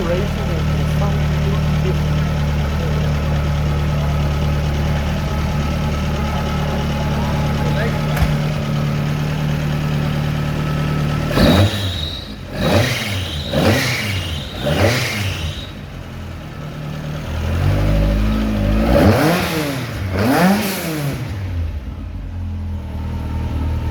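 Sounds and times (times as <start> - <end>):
rally car engine revving: 0.0 - 23.9.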